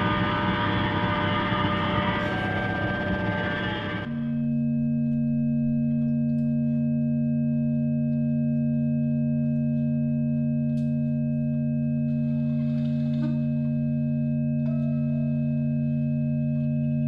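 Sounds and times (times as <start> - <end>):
electronic drone of sustained tones: 0.0 - 17.0.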